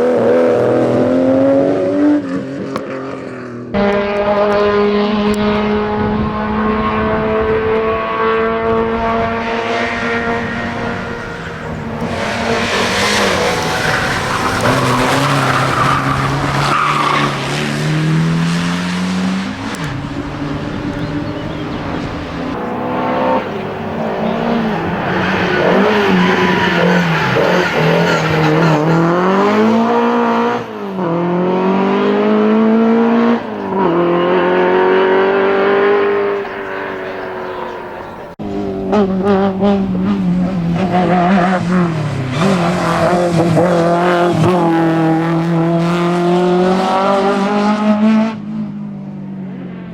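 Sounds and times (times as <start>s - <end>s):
race car engine revving: 0.0s - 48.6s.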